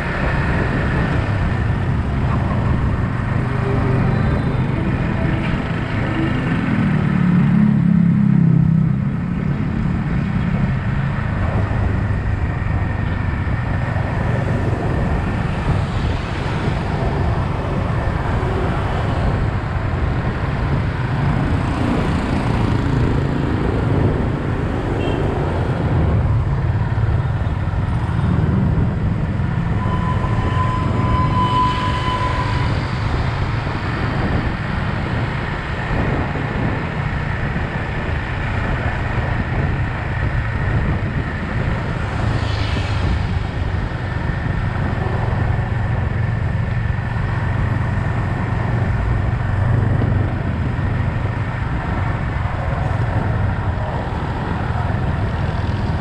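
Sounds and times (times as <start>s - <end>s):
road and traffic noise: 0.0s - 56.0s.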